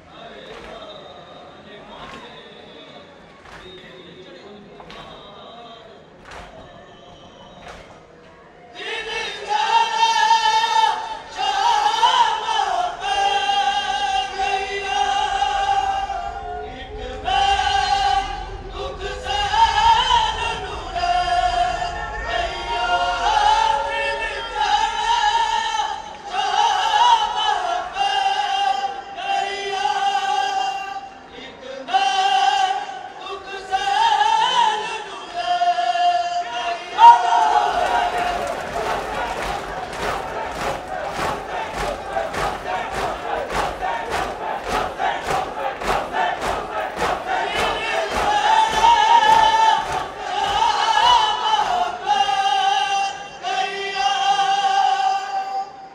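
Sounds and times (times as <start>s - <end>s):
several voices singing lament: 8.8s - 55.9s.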